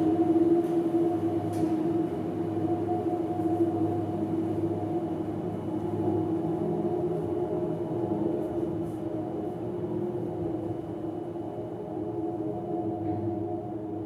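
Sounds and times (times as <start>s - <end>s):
droning music: 0.0s - 14.0s.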